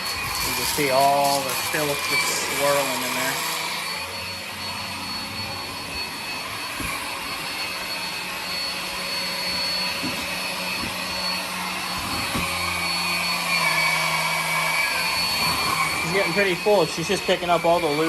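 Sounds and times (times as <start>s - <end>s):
vacuum cleaner motor whine: 0.0s - 18.0s.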